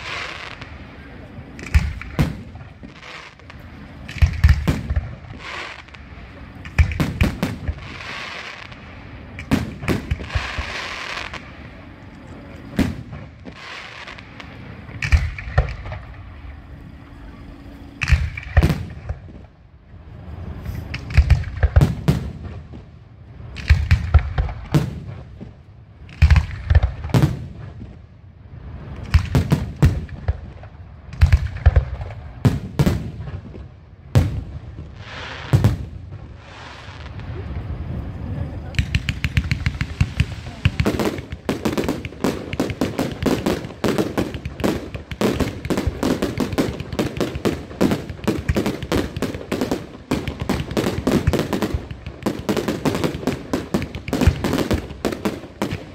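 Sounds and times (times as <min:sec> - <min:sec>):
crackling hiss: 0:00.0 - 0:55.9
fireworks and firecrackers banging: 0:00.0 - 0:55.9.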